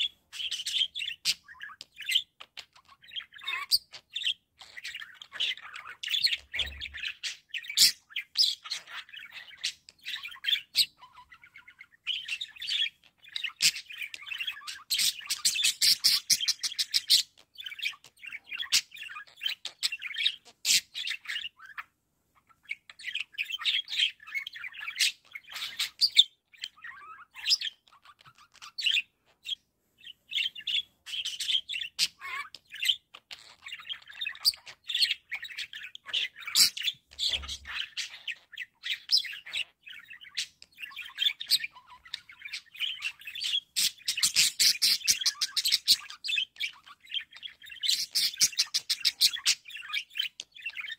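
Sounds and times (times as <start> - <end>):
budgerigars chattering and warbling: 0.0 - 50.9.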